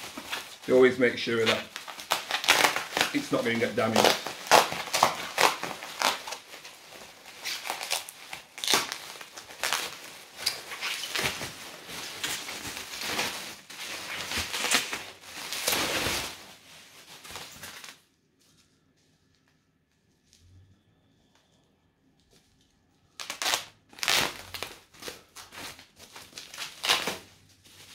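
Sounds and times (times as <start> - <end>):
bubble wrap crinkling: 0.0 - 18.6, 22.3 - 27.9.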